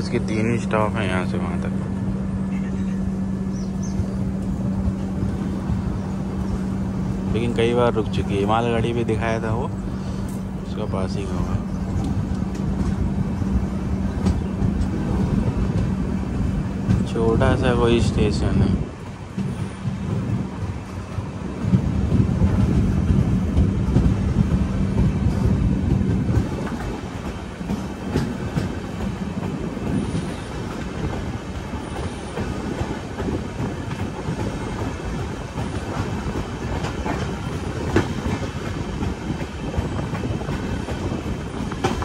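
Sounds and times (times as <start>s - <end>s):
train rumbling on track: 0.0s - 42.0s
wheels clacking over rail joints: 2.5s - 42.0s.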